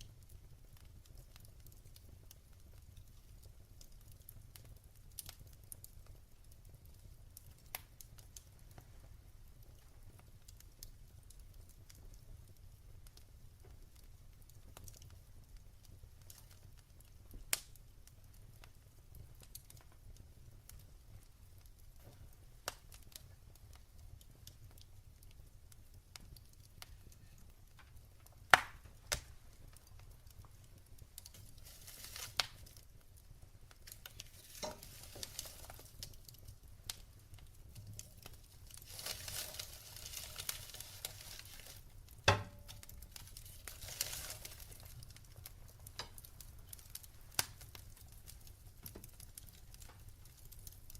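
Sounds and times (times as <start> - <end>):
fire crackling pops: 0.0 - 50.9
soft hiss of burning: 0.0 - 50.9.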